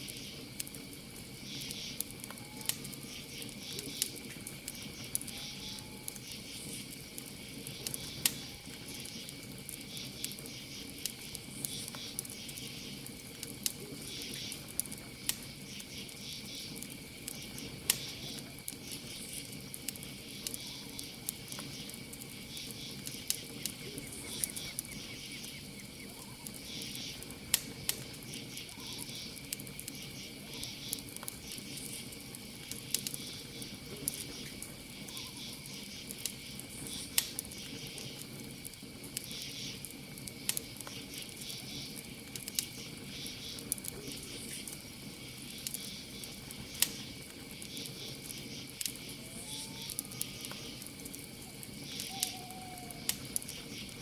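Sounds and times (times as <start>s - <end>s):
campfire crackling and popping: 0.0s - 54.0s
cricket trill: 0.0s - 54.0s.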